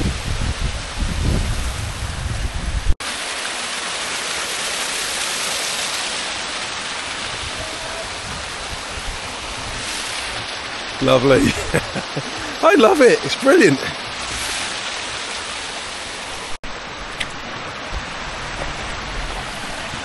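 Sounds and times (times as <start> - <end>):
stream cascading over rocks: 0.0 - 20.0.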